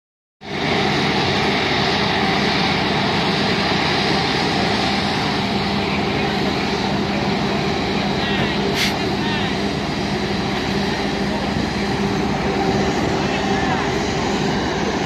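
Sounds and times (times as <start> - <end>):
jet engines running: 0.4 - 15.0.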